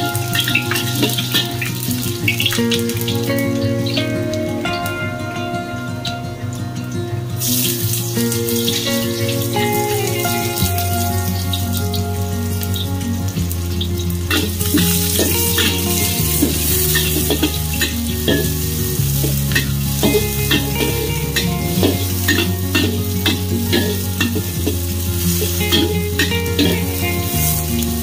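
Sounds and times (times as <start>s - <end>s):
onion sizzling in hot oil: 0.0s - 4.1s, 7.4s - 28.0s
steady low tones: 0.0s - 28.0s.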